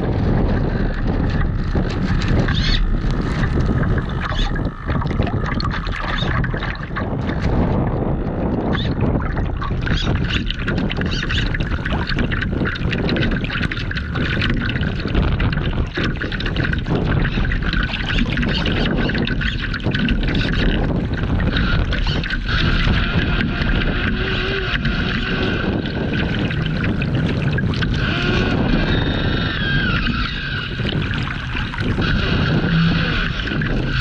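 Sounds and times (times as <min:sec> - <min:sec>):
water slapping against hull: 0:00.0 - 0:34.0
wind buffeting microphone: 0:00.0 - 0:34.0.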